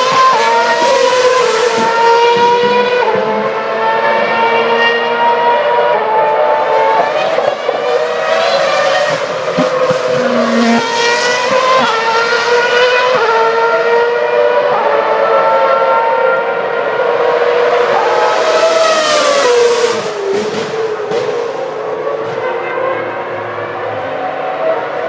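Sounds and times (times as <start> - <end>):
racing car engines at full throttle: 0.0 - 25.0.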